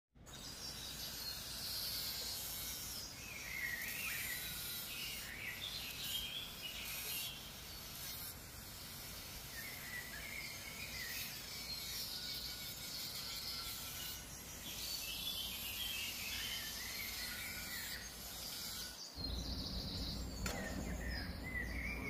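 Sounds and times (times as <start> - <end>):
bird chirps: 0.3 - 7.5, 9.4 - 22.0.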